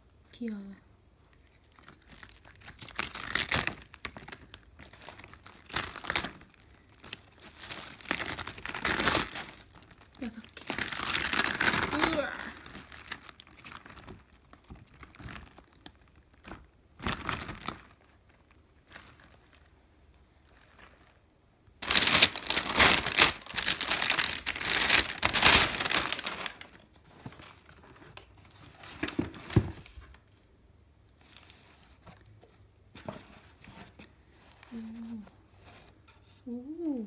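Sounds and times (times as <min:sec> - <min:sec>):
plastic packaging crinkling: 0:01.4 - 0:30.2, 0:31.2 - 0:32.3.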